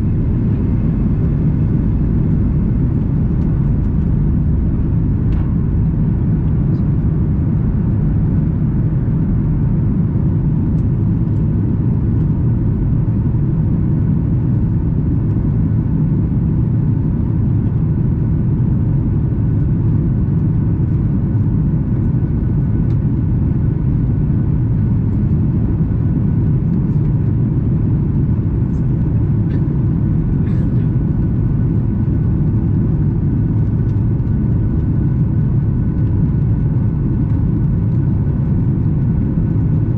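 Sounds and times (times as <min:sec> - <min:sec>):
faint steady hum: 0:00.0 - 0:39.9
jet engine rumble: 0:00.0 - 0:39.9.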